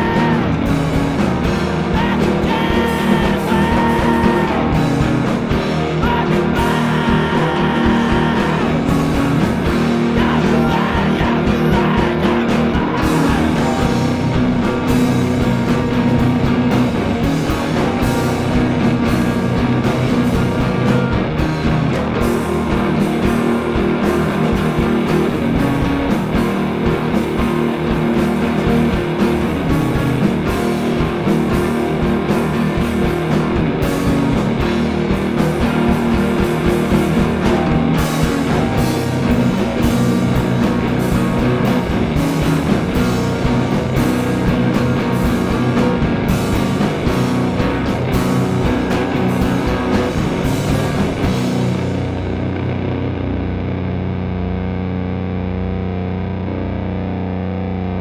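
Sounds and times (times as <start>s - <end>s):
drum kit: 0.0s - 55.3s
electric guitars and bass: 0.0s - 58.0s.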